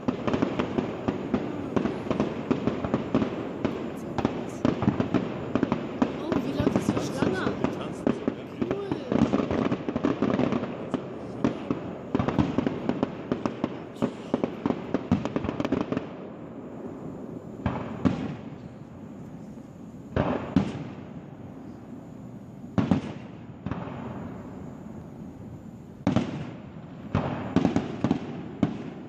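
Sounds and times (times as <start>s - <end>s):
loud echoing firework bangs: 0.0s - 18.8s, 20.1s - 21.4s, 22.7s - 24.9s, 26.0s - 29.0s
fireworks crackling pops: 0.0s - 29.0s.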